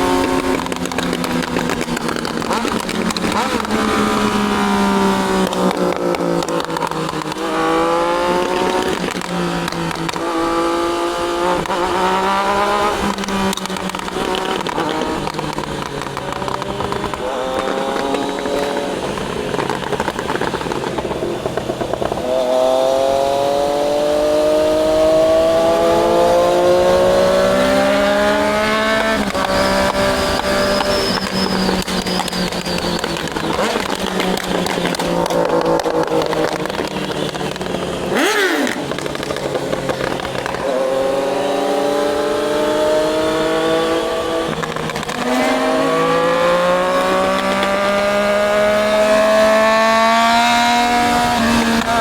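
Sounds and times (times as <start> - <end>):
motorcycle engine revving through gears: 0.0 - 52.0.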